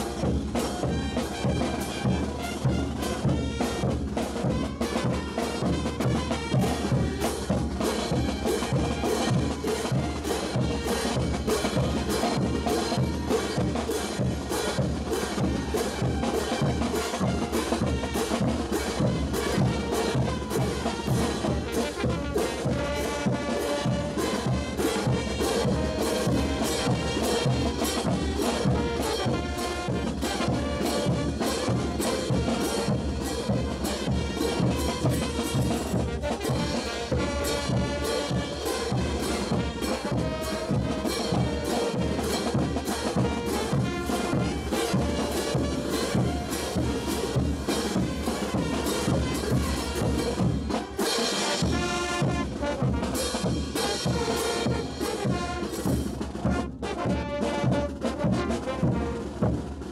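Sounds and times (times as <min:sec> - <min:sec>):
brass band playing dance tune: 0:00.0 - 0:59.9
drum beating: 0:00.0 - 0:59.9.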